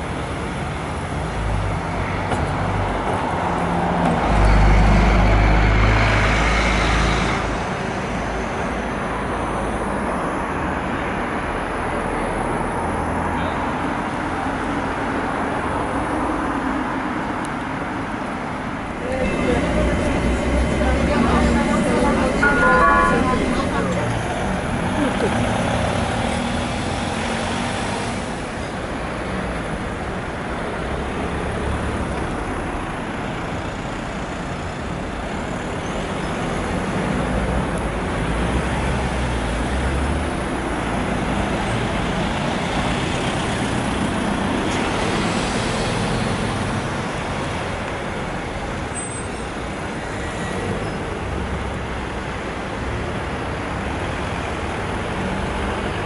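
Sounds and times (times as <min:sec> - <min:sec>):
traffic passing: 0:00.0 - 0:56.0.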